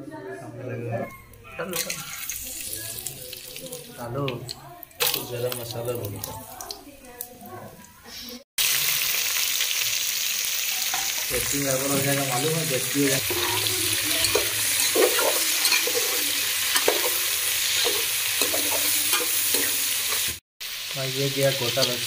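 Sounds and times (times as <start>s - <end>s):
onions sizzling in hot oil: 1.7s - 7.1s, 8.6s - 22.0s.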